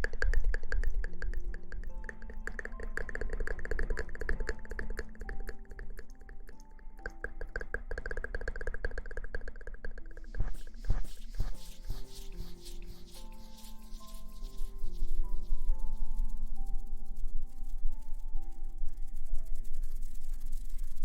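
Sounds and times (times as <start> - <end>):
fast scratching clicks: 0.0 - 17.3
soft background music: 0.0 - 21.0.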